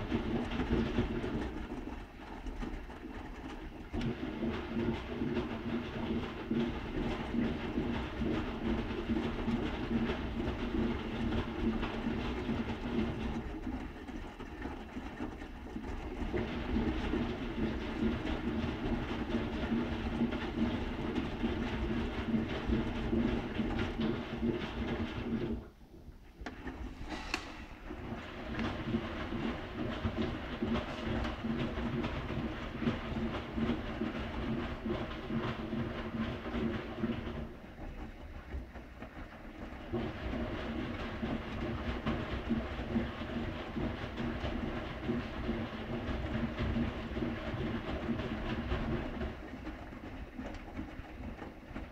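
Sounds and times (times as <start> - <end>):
washing machine drum turning: 0.0 - 2.2, 3.6 - 13.5, 16.2 - 25.6, 26.5 - 51.9.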